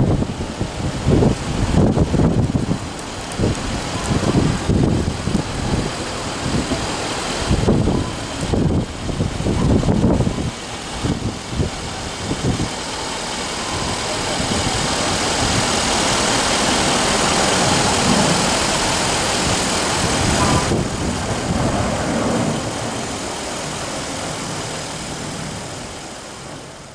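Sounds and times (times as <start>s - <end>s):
jet engines roaring at takeoff: 0.0s - 26.9s.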